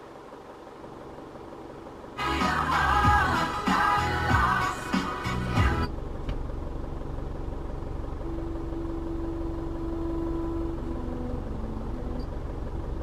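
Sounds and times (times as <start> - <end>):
diesel engine idling: 0.0 - 13.0
faint steady hum: 0.0 - 13.0.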